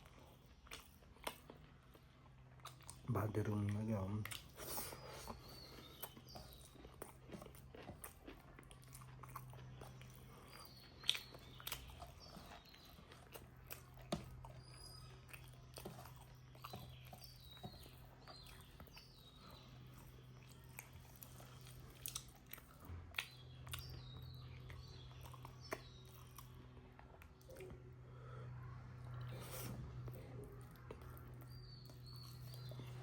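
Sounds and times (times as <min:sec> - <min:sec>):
person chewing and lip smacking: 0:00.0 - 0:28.1, 0:29.0 - 0:33.0
steady low hum: 0:00.0 - 0:33.0.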